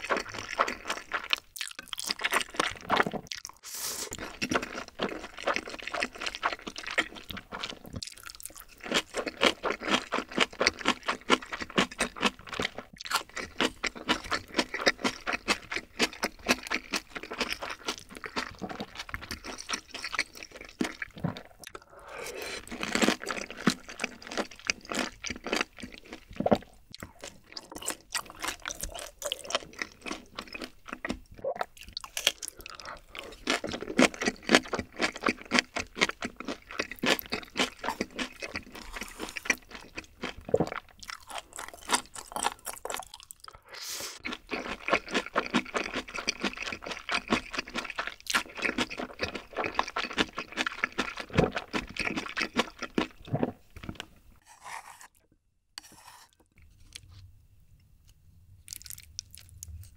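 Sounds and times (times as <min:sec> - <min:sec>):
person chewing crunchy food: 0:00.0 - 0:55.2, 0:58.6 - 0:59.9.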